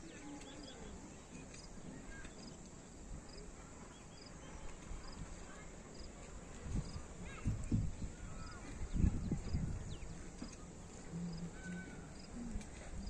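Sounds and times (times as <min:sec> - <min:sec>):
birds chirping: 0:00.0 - 0:02.7, 0:03.4 - 0:06.1, 0:07.0 - 0:12.4.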